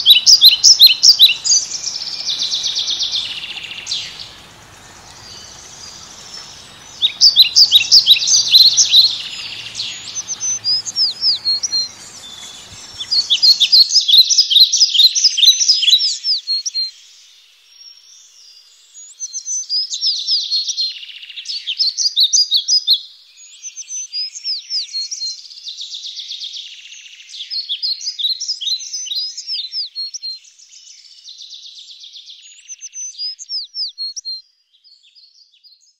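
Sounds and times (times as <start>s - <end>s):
small songbird singing: 0.0s - 35.9s.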